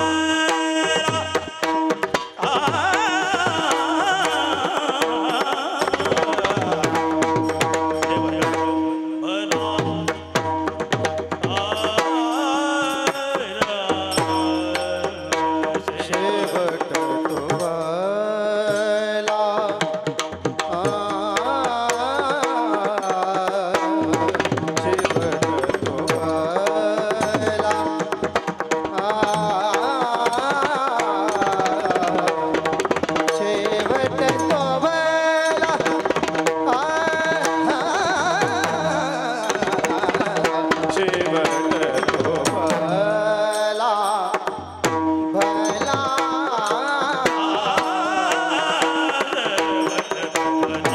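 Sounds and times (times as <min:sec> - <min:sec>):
drum accompaniment: 0:00.0 - 0:50.9
man singing devotional song: 0:00.0 - 0:50.9.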